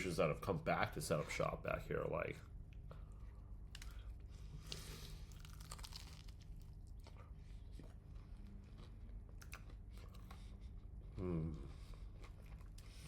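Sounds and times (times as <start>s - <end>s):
crunching and chewing fried chicken: 2.3s - 13.0s.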